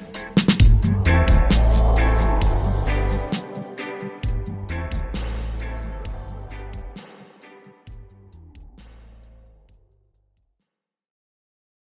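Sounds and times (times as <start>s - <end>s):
reggae song: 0.0s - 9.6s.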